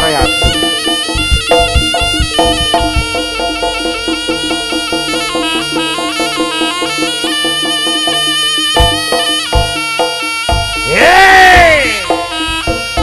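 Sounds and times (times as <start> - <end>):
drum strokes: 0.0 - 13.0
gamelan percussion: 0.0 - 13.0
reed shawm melody: 0.0 - 13.0.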